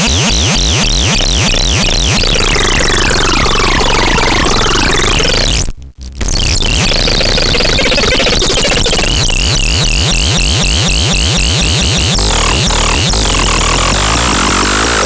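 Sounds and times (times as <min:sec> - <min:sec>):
dense electronic music: 0:00.0 - 0:15.0.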